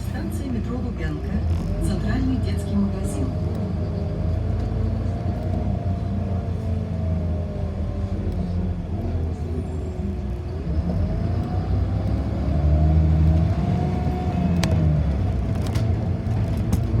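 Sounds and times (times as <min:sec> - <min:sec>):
bus engine rumble and whine: 0:00.0 - 0:17.0.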